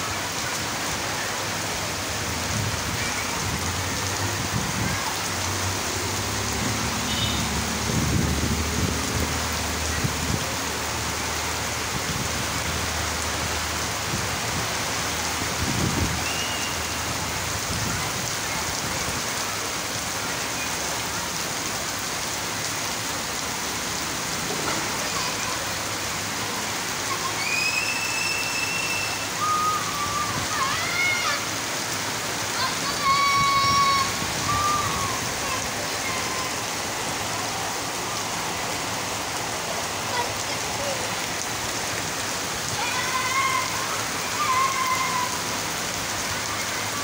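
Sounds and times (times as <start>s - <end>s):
heavy rain on street: 0.0s - 47.0s.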